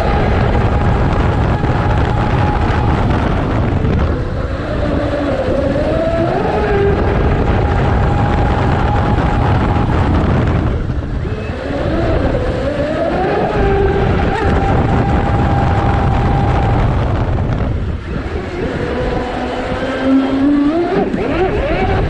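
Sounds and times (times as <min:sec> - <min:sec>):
electric motor and propeller whine: 0:00.0 - 0:22.0
water and wind rush: 0:00.0 - 0:22.0.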